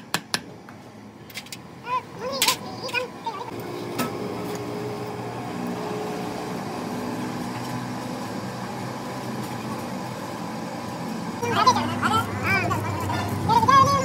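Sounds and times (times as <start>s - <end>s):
machinery humming: 0.6s - 14.0s.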